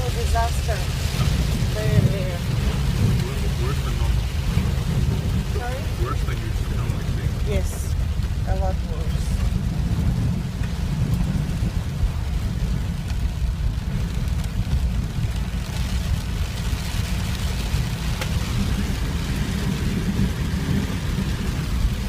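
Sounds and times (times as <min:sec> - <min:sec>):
heavy rain on a vehicle: 0:00.0 - 0:22.0
low vehicle rumble: 0:00.0 - 0:22.0.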